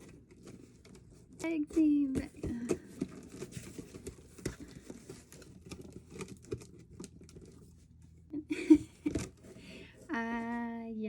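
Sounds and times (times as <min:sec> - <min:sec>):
light rustling of packaging: 0:00.0 - 0:10.8.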